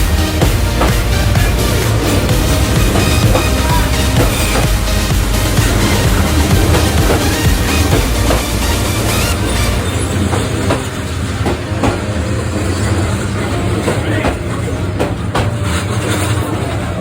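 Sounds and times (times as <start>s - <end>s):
train running gear rumble: 0.0s - 17.0s
wheels clacking over rail joints: 0.0s - 17.0s.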